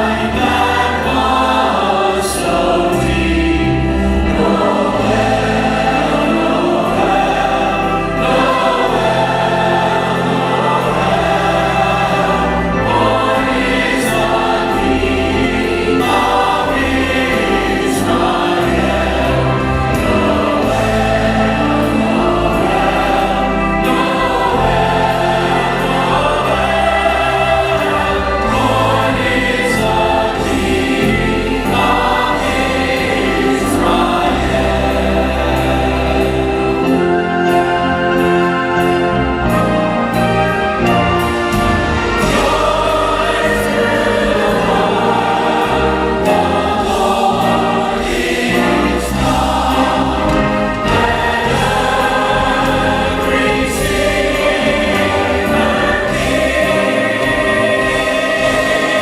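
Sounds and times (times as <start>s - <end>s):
church choir singing: 0.0s - 59.0s
instrumental accompaniment: 0.0s - 59.0s.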